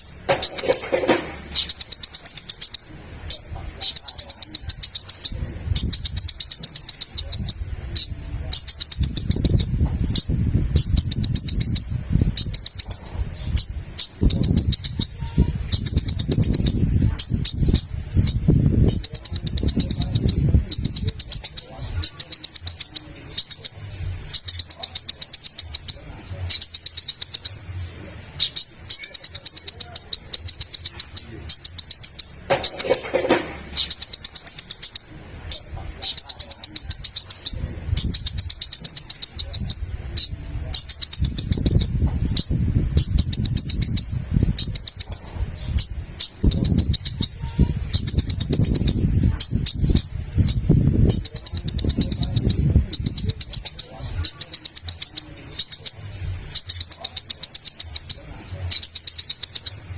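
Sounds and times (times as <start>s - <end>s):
bird singing rapid chattering: 0.0s - 59.9s.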